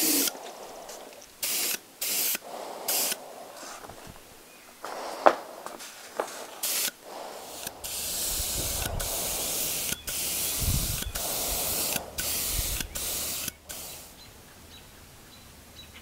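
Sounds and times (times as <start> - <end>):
spray gun hissing: 0.0 - 14.3.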